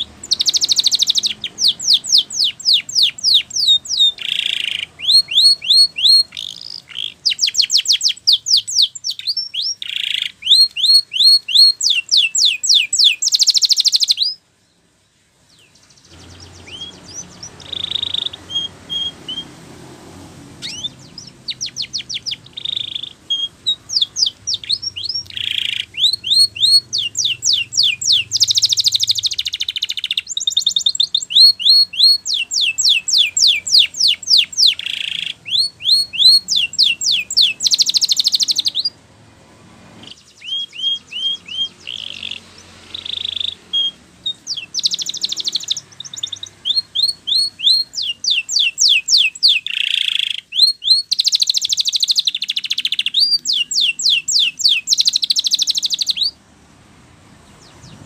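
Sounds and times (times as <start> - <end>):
canary singing: 0.0 - 56.4, 57.2 - 58.0.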